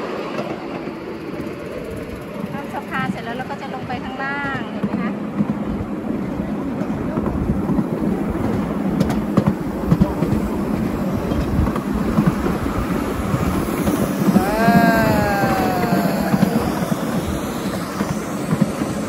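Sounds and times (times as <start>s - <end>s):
miniature train rumbling: 0.0s - 19.0s
wheels clattering on rails: 0.0s - 19.0s.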